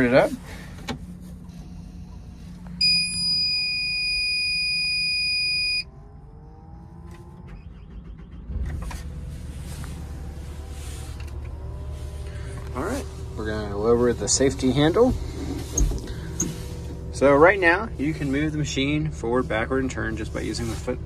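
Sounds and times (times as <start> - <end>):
diesel engine starting and idling: 0.0 - 21.0.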